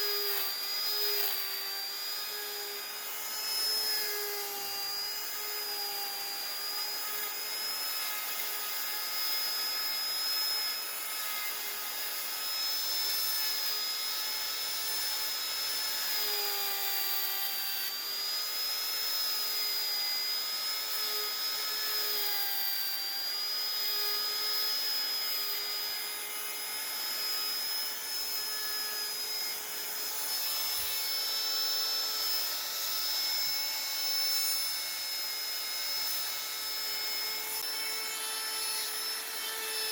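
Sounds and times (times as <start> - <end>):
rotary carving tool whining: 0.0 - 39.9
wood being ground: 0.0 - 39.9.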